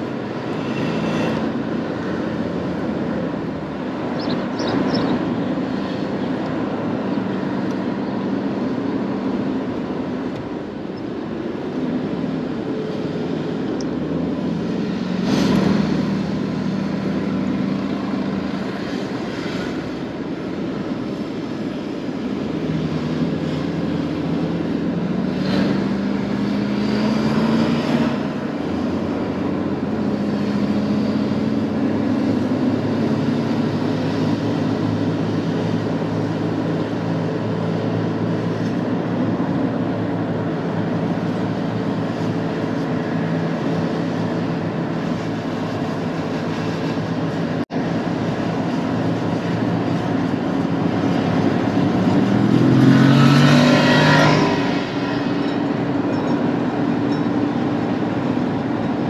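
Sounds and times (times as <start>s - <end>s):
car engine hum: 0.0s - 59.0s
road and tyre noise: 0.0s - 59.0s.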